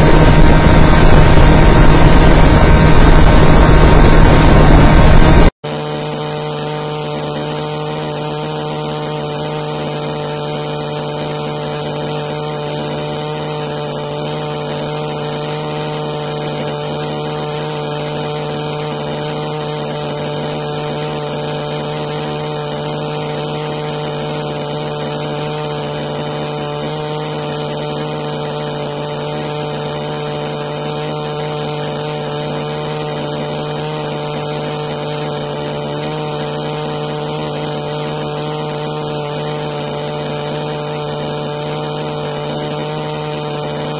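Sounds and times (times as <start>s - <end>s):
aircraft motors humming: 0.0s - 43.9s.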